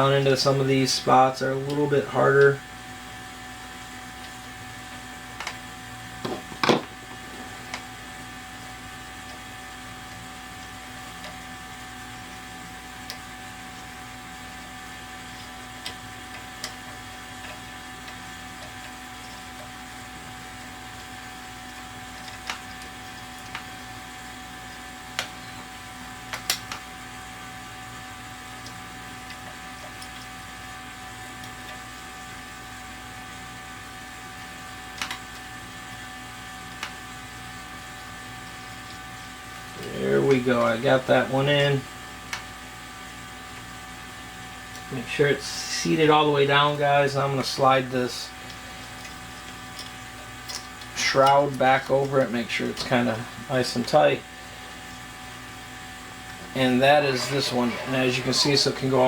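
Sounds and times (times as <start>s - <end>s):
mechanical hum: 0.0s - 59.0s.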